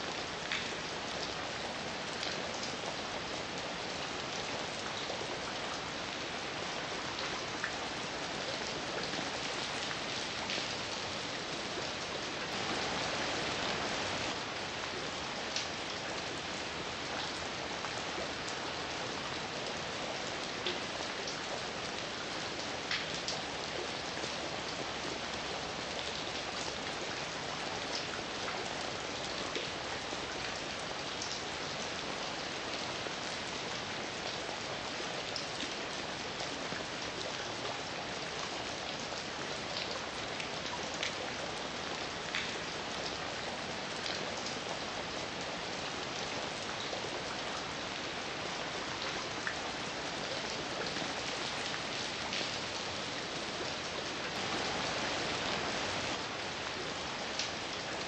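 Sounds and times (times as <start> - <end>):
heavy rain falling: 0.1 - 31.9, 32.7 - 58.0
raindrops ticking on a surface: 0.1 - 57.9.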